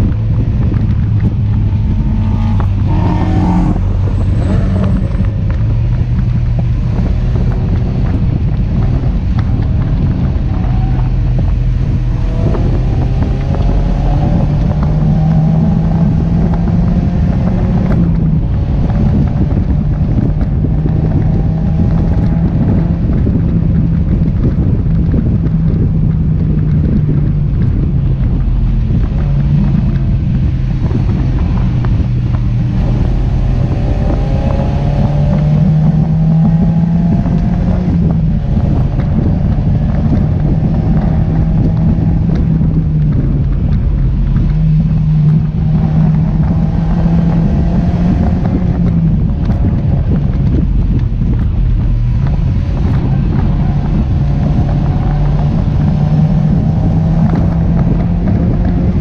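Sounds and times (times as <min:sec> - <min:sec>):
car engine revving: 0:00.0 - 0:59.0
wind noise on microphone: 0:00.0 - 0:59.0.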